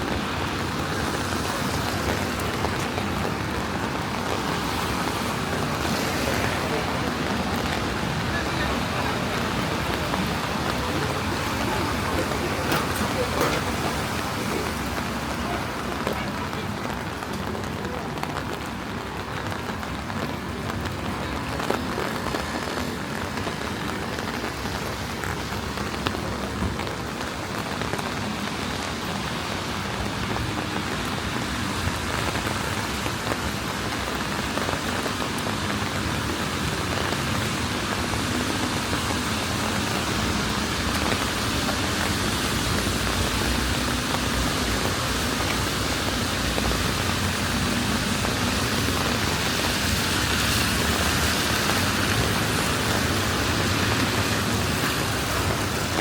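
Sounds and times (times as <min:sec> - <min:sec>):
rain on wet streets: 0:00.0 - 0:56.0.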